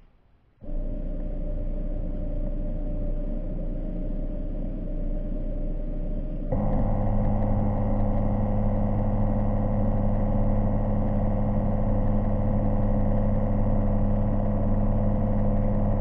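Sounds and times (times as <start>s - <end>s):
electric thruster motors humming: 0.6s - 16.0s.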